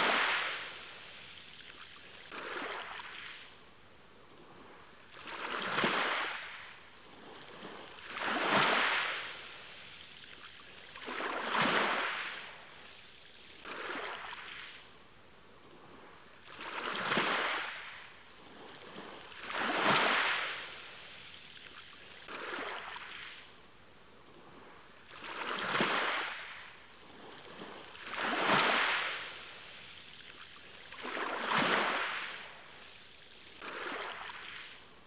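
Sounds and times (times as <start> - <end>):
small waves washing onto shore: 0.0 - 35.0.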